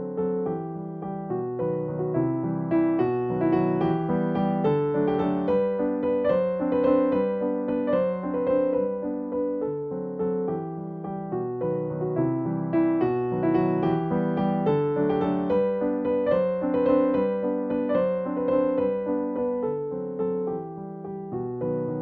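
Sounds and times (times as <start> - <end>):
keyboard melody over chords: 0.0 - 22.0.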